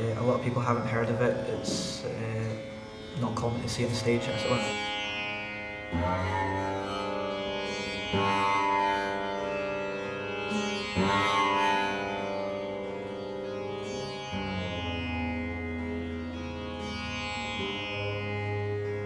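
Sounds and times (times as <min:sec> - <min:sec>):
plucked veena notes: 0:00.0 - 0:19.0.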